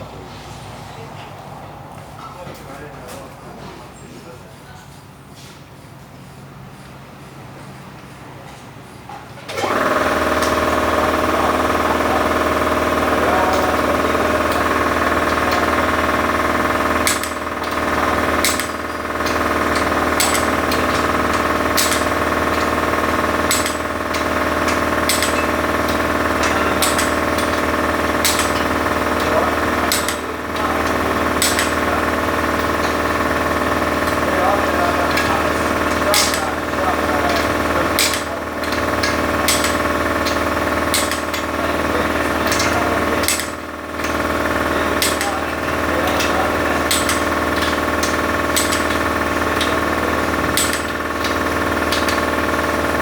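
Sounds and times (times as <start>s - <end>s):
machine motor running: 5.1s - 53.0s
sharp clicks: 9.5s - 53.0s.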